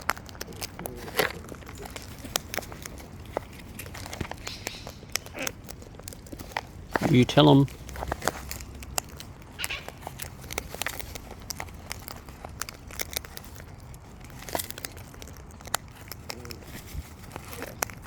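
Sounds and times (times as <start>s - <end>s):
parrots cracking seeds: 0.0s - 18.0s.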